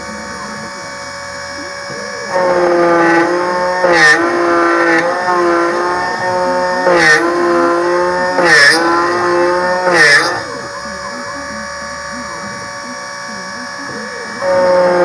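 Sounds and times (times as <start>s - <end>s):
key cutter motor whine: 0.0s - 15.0s
metallic rasp: 0.6s - 15.0s.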